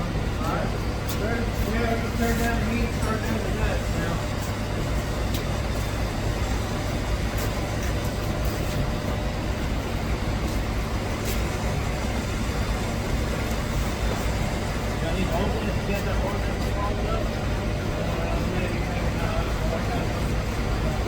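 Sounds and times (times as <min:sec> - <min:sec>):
low machine drone: 0:00.0 - 0:21.0.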